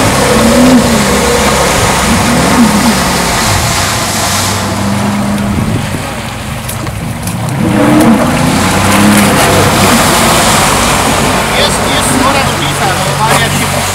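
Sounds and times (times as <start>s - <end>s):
jet ski engine: 0.0s - 13.9s
outboard motor running: 0.0s - 13.9s
steady rushing noise: 0.0s - 13.9s.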